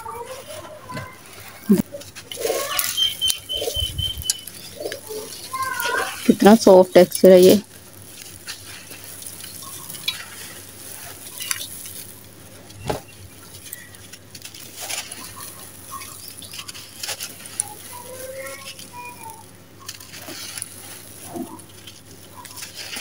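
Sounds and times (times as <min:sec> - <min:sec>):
grit and pebbles pattering: 0:00.0 - 0:23.0.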